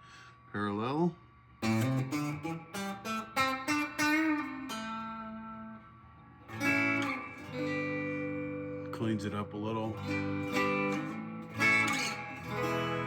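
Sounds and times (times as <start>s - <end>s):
clean electric guitar: 1.5s - 13.0s.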